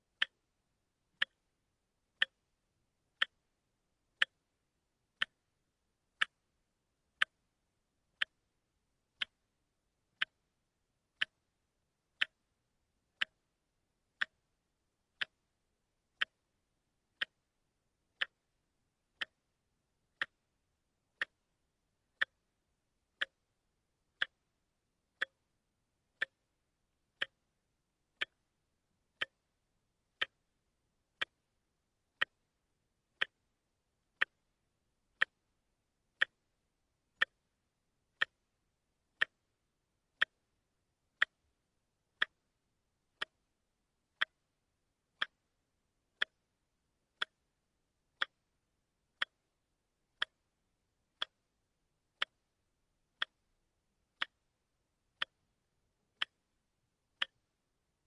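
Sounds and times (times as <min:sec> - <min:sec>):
wristwatch ticking: 0:00.0 - 0:00.5, 0:01.1 - 0:04.5, 0:05.1 - 0:57.8.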